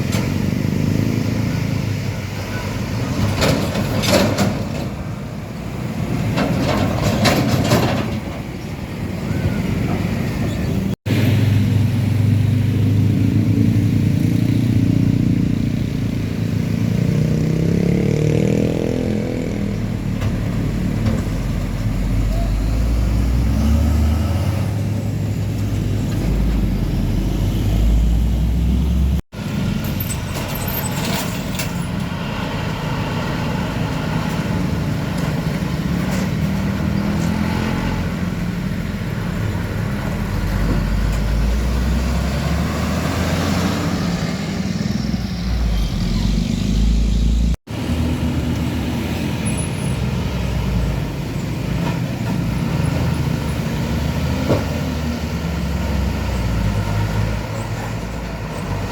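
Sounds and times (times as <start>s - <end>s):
diesel trucks passing: 0.0s - 58.9s
tyre and road noise: 0.0s - 58.9s.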